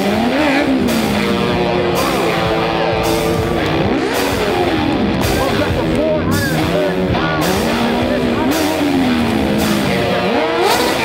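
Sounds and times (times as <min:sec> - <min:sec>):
rock music with steady beat: 0:00.0 - 0:11.0.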